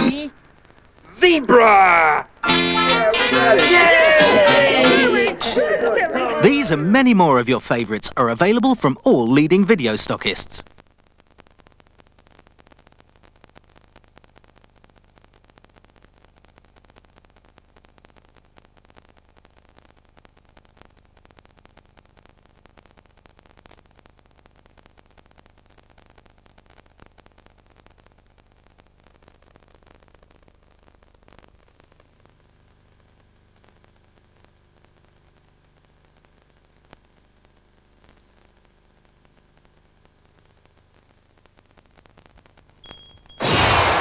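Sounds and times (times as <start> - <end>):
tape hiss and crackle: 0.0 - 44.0.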